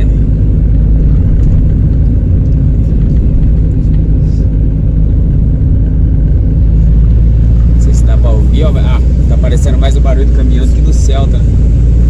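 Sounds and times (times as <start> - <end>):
car exhaust rumble: 0.0 - 12.0
small truck engine: 0.0 - 12.0.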